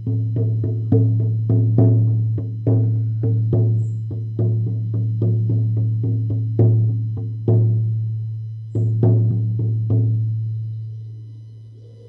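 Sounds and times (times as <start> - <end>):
frame drum beaten in steady rhythm: 0.0 - 8.1, 8.8 - 10.4.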